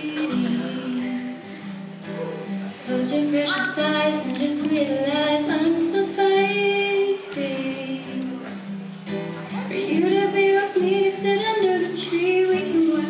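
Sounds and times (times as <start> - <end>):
woman singing: 0.0 - 1.5, 2.8 - 8.6, 9.6 - 13.0
acoustic guitar: 0.0 - 13.0.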